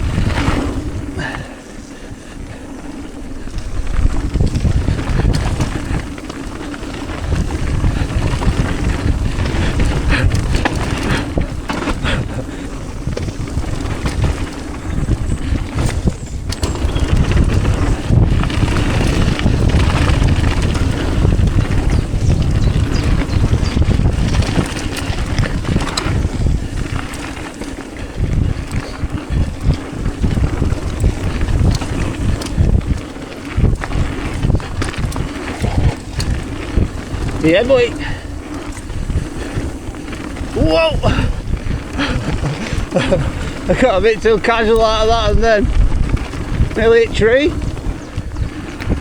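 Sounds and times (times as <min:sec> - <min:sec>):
bike knocks and rattles: 0:00.0 - 0:01.6, 0:02.5 - 0:49.0
tyre rumble: 0:00.0 - 0:49.0
wind buffeting microphone: 0:00.0 - 0:49.0.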